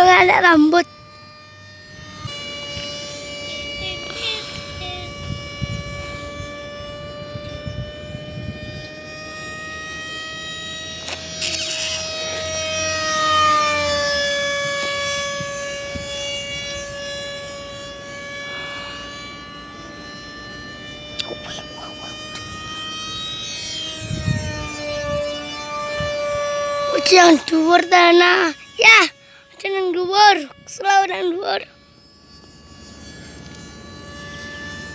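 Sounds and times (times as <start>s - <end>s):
model jet whine flying past: 0.0s - 34.9s.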